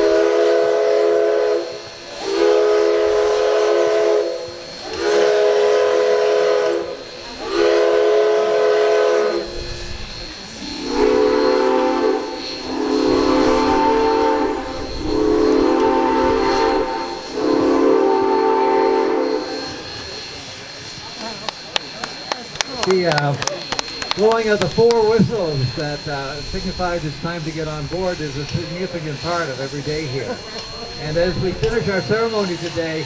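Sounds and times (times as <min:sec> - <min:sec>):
steam locomotive chime whistle: 0:00.0 - 0:23.3, 0:24.0 - 0:33.0.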